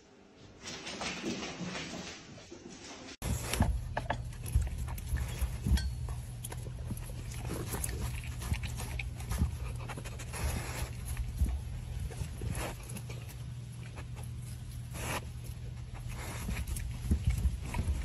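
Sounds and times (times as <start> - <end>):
dog licking and eating: 3.2 - 18.0
steady low hum: 3.2 - 18.0.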